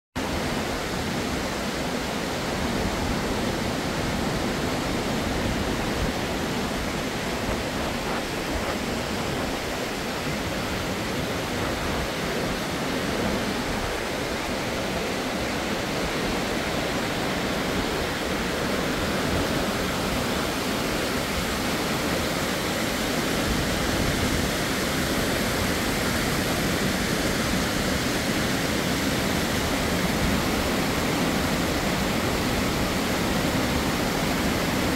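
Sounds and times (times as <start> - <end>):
waterfall rushing over rocks: 0.2 - 34.9.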